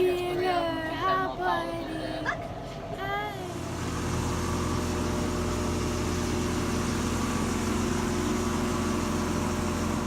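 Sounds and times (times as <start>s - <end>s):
air conditioner unit humming: 0.0s - 10.0s.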